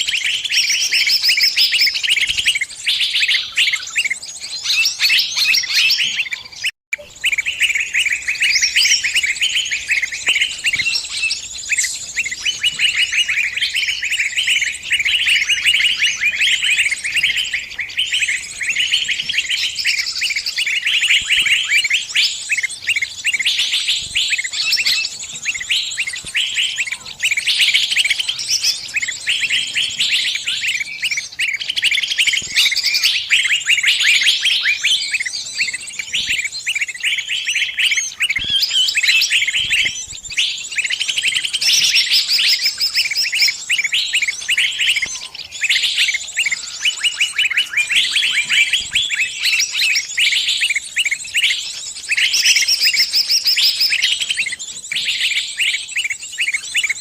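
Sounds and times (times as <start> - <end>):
songbird distress calls: 0.0 - 57.0.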